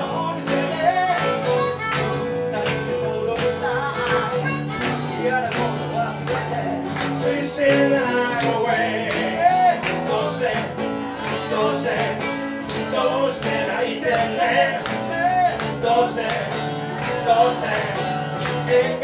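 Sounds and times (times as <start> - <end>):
acoustic guitar: 0.0 - 19.0
man singing: 0.0 - 19.0.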